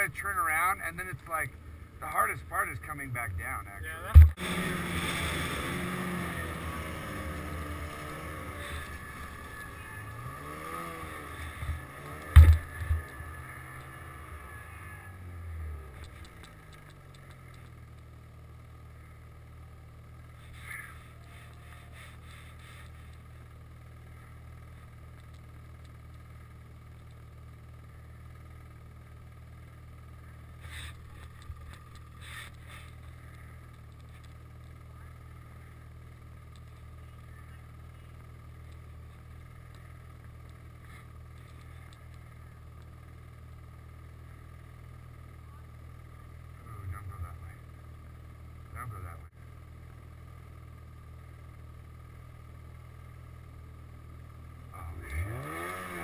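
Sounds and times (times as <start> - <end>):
snowmobile engine idling: 0.0 - 56.0.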